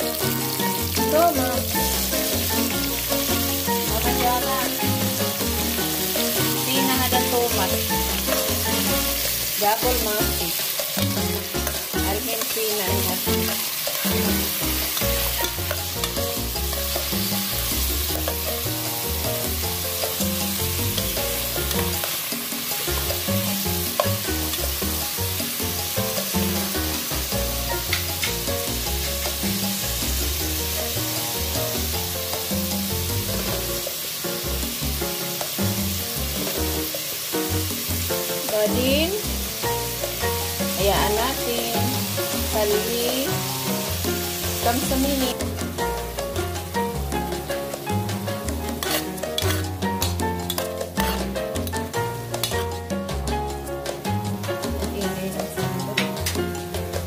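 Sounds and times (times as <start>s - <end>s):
low music notes: 0.0s - 57.0s
vegetables sizzling in oil: 0.0s - 57.0s.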